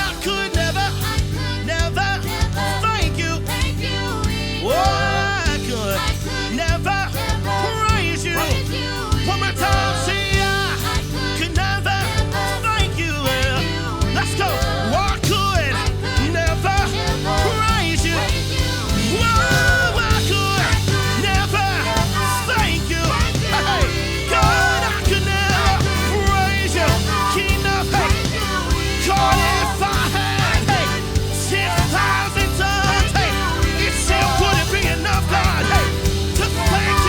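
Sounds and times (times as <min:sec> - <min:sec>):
band playing upbeat music: 0:00.0 - 0:37.0
drums: 0:00.0 - 0:37.0.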